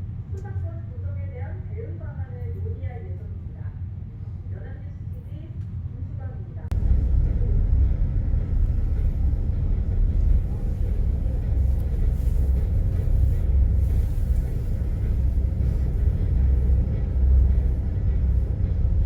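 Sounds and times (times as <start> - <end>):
ferry engine low rumble: 0.0 - 19.0.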